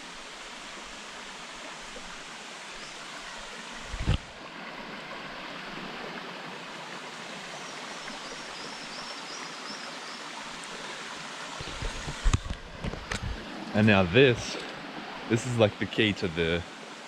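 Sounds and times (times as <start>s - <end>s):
rushing stream water: 0.0s - 17.0s.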